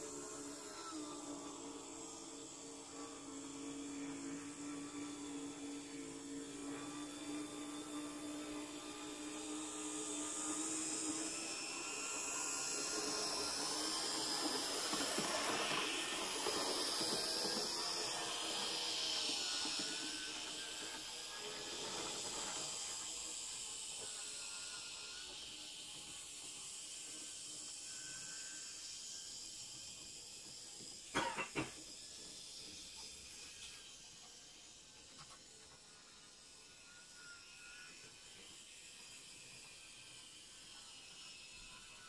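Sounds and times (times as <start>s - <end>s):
model train motor whine: 0.0s - 42.0s.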